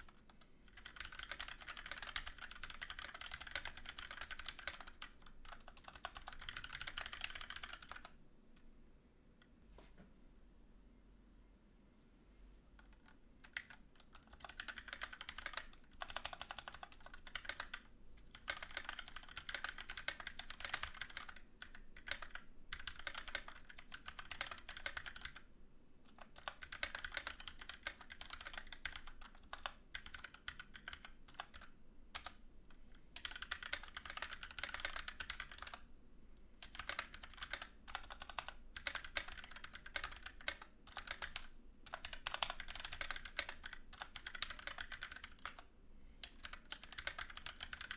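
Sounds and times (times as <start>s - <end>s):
mechanical keyboard typing: 0.0s - 8.2s, 12.8s - 25.5s, 26.1s - 32.4s, 33.2s - 35.8s, 36.6s - 47.9s.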